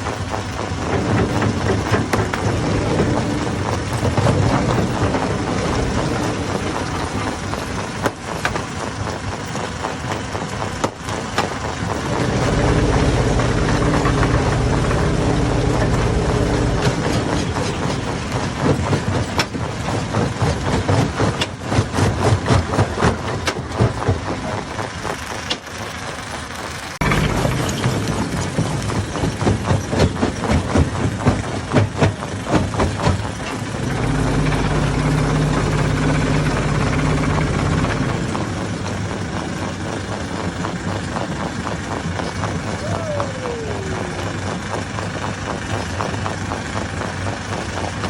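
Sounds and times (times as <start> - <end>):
stone crusher rumbling: 0.0 - 48.0.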